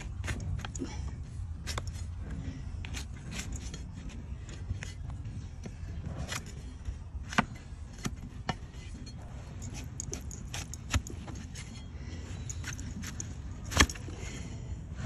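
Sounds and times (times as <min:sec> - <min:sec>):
knife shaving hoof: 0:00.0 - 0:05.2, 0:06.0 - 0:14.1
low background rumble: 0:00.0 - 0:15.0.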